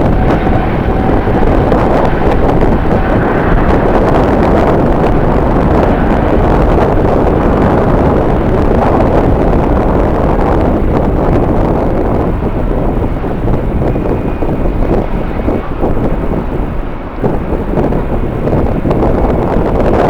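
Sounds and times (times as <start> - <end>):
wind blowing over microphone: 0.0 - 20.0.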